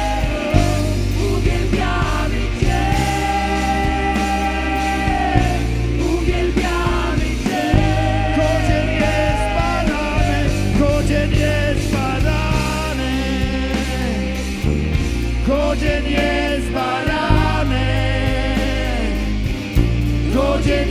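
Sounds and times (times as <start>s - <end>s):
heavy bass and drums: 0.0s - 20.9s
people singing: 0.0s - 20.9s
rock band playing: 0.0s - 20.9s.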